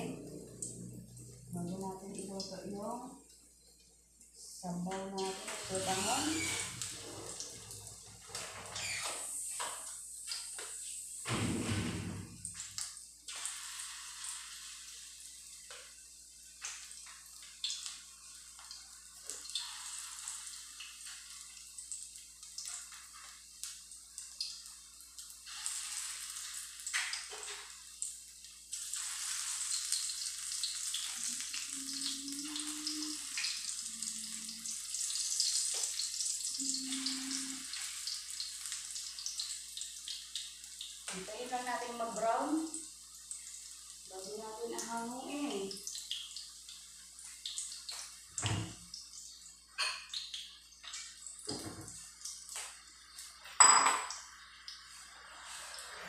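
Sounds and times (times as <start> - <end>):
meatballs sizzling in oil: 5.0 - 56.0.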